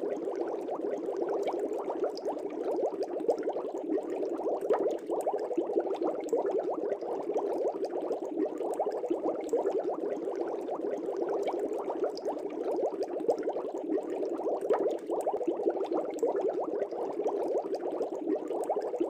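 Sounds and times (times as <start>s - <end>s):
aquarium bubbling: 0.0s - 19.0s.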